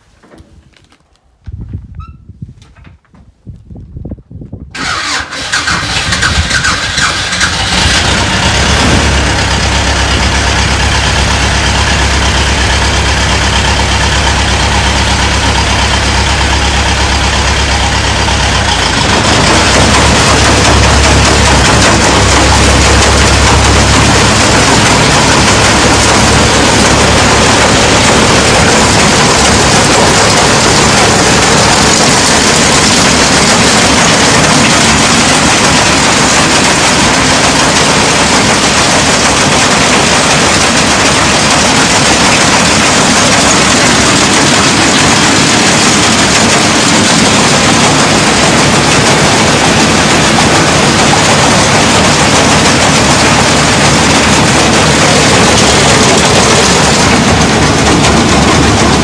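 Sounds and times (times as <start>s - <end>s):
engine noise: 4.8s - 59.0s
rapid mechanical clatter: 4.8s - 59.0s.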